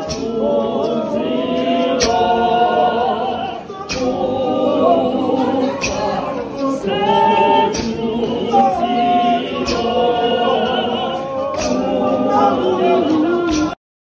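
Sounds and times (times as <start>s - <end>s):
congregation singing unaccompanied: 0.0s - 13.8s.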